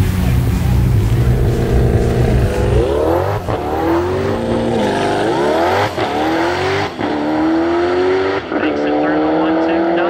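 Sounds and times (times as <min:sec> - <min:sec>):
car engine revving and accelerating: 0:00.0 - 0:10.0.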